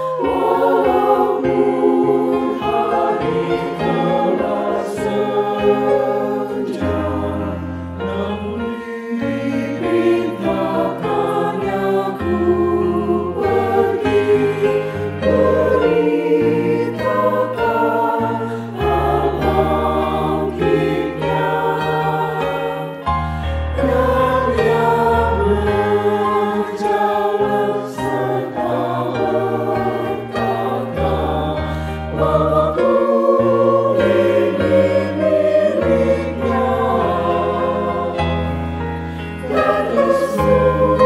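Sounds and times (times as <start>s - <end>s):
choir singing a hymn: 0.0s - 41.0s.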